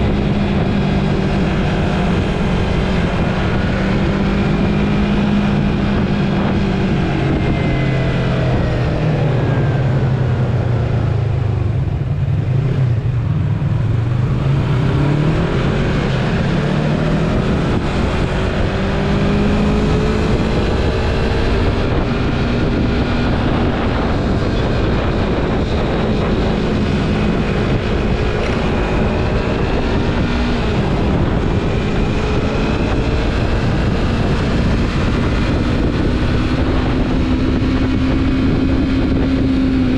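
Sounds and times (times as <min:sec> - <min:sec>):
motorcycle engine: 0:00.0 - 0:39.9
rush of noise: 0:00.0 - 0:39.9.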